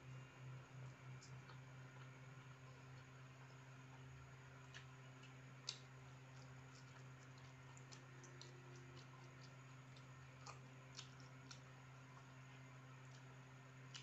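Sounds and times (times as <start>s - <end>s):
low steady hum: 0.0s - 14.0s
person eating by hand: 0.8s - 14.0s.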